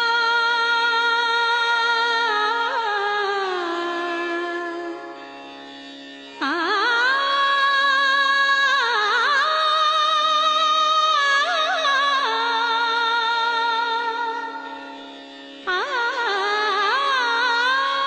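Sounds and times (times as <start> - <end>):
woman singing: 0.0 - 5.0, 6.4 - 14.6, 15.7 - 18.0.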